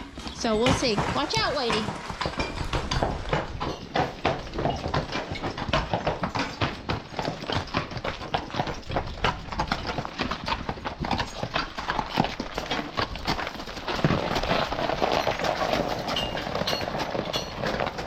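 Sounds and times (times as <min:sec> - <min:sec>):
horse hooves walking: 0:00.0 - 0:18.0.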